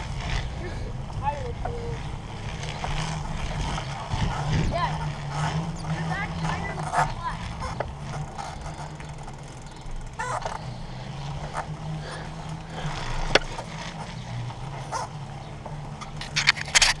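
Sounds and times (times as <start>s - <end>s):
bicycle rattling and clicking: 0.0s - 17.0s.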